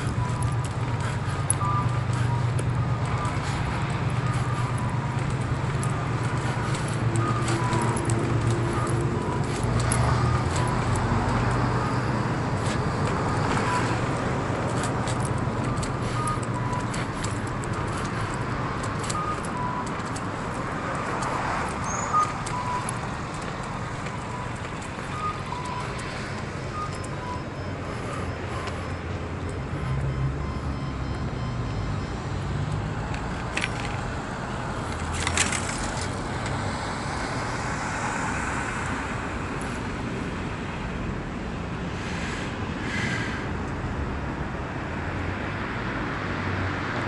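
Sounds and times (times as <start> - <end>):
road traffic: 0.0 - 47.0.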